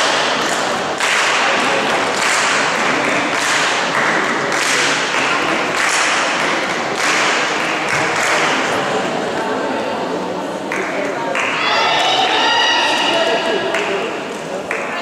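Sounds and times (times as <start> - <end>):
spectators clapping in unison: 0.0 - 9.1, 10.6 - 15.0.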